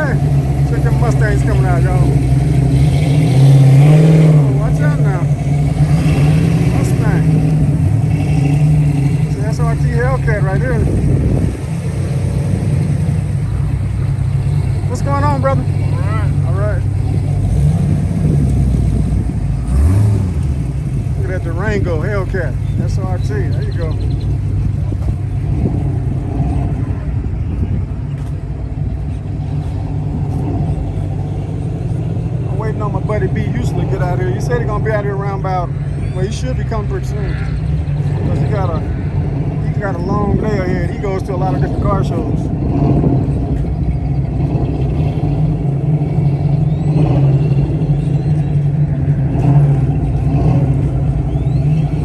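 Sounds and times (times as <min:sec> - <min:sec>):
car engine deep rumble: 0:00.0 - 0:52.0.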